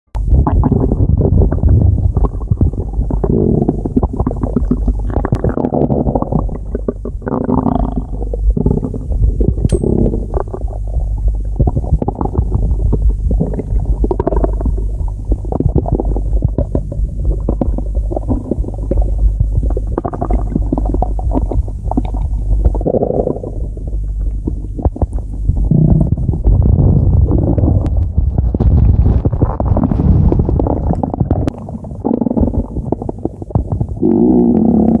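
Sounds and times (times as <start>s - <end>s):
stomach growling: 0.2s - 35.0s.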